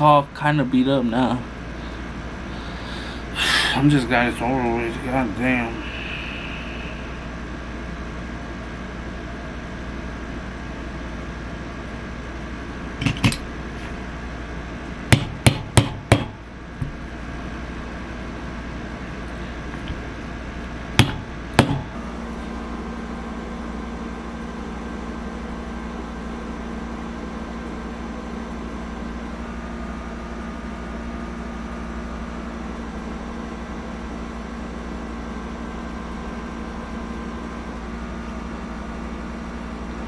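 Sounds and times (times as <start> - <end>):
machine hum: 0.0 - 40.0.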